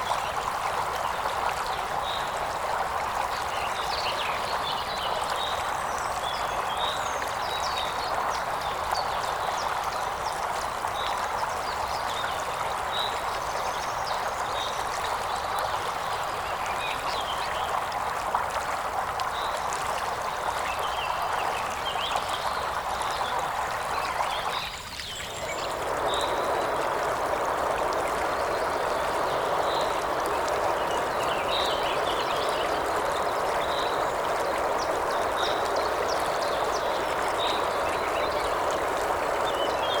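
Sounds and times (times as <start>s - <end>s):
river water flowing over stones: 0.0s - 40.0s.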